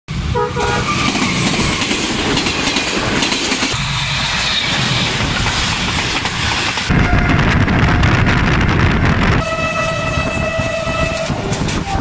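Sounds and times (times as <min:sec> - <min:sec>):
train passing at speed: 0:00.1 - 0:12.0
wheels rattling over rail joints: 0:00.6 - 0:12.0.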